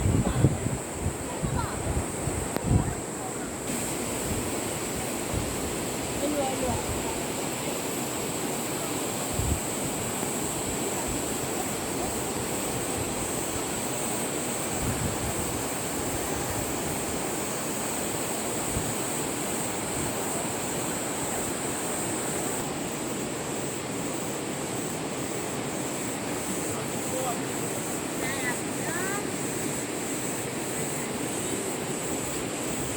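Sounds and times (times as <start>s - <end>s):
river water rushing: 3.1s - 32.9s.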